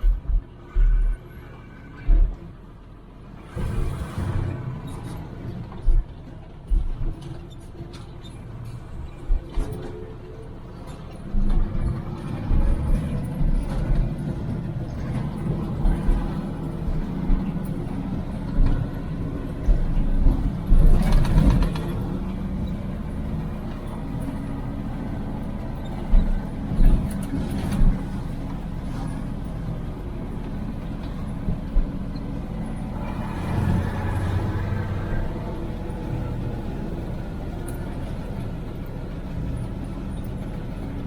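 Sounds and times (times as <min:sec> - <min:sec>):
truck knocks and rattles: 0:00.0 - 0:01.3, 0:01.9 - 0:41.0
diesel truck engine running: 0:00.0 - 0:41.0.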